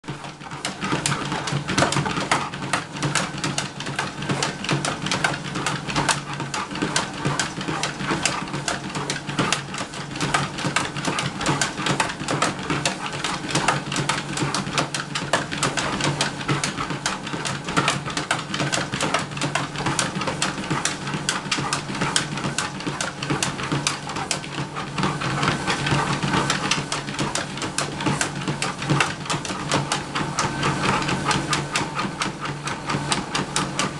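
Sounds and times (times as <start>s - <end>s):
treadmill humming: 0.0s - 33.9s.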